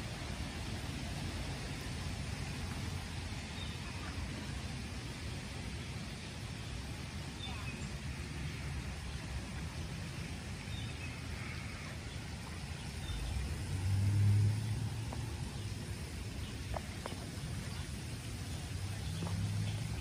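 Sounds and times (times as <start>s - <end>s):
light rain hiss: 0.0s - 20.0s
road traffic rumble: 0.0s - 20.0s.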